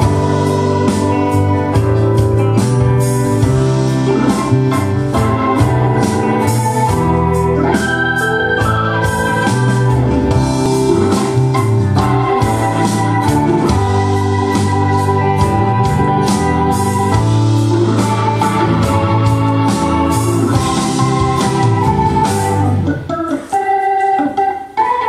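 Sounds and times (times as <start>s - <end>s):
organ chords over drum beat: 0.0s - 25.0s.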